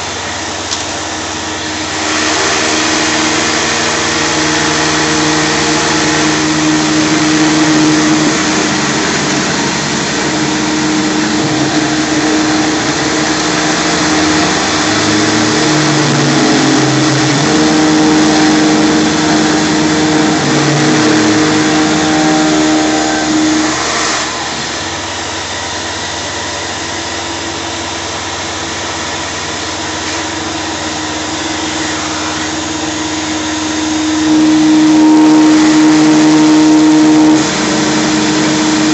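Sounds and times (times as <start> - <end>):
cnc mill cutting plastic: 0.0 - 38.9
shop vacuum running: 0.0 - 38.9
stepping motor tones: 0.0 - 38.9.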